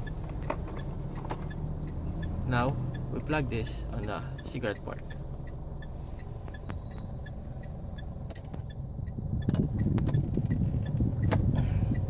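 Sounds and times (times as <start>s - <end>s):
faint regular ticking: 0.0s - 12.0s
steady low rumble: 0.0s - 12.0s.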